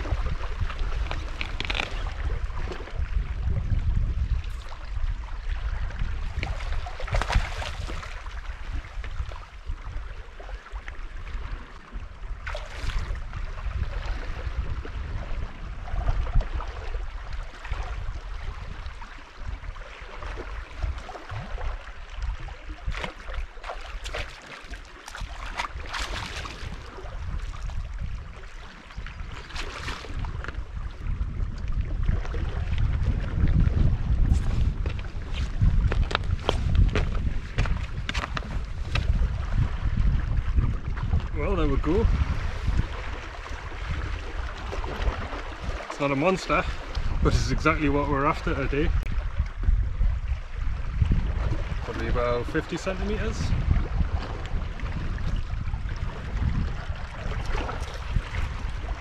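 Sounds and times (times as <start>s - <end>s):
water lapping and splashing: 0.0s - 59.0s
wind rumbling on microphone: 0.0s - 59.0s.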